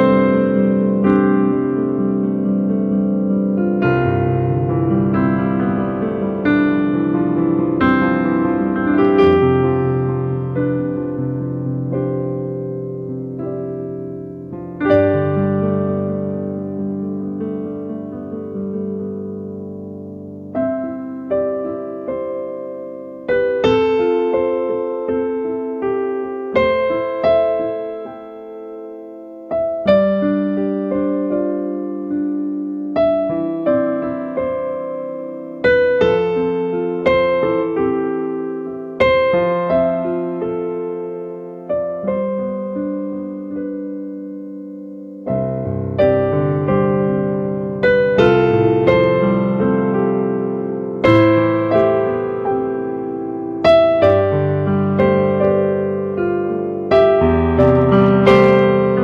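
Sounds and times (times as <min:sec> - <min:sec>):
slow keyboard chords: 0:00.0 - 0:59.0.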